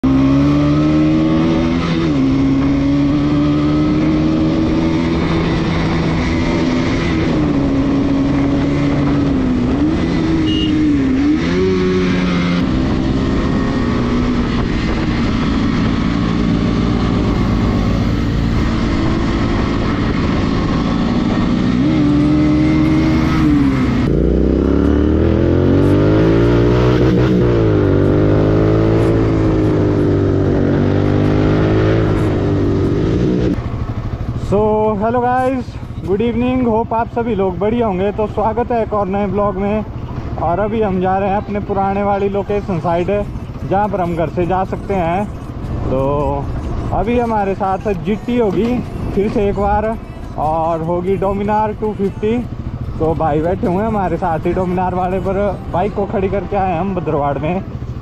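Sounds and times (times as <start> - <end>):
motorcycle engine while riding: 0.0 - 58.0
motorcycle revving: 0.0 - 58.0.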